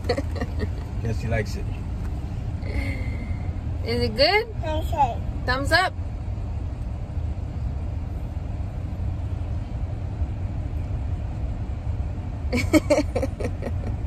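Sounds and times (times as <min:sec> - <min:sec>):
car engine rumble inside cabin: 0:00.0 - 0:14.0.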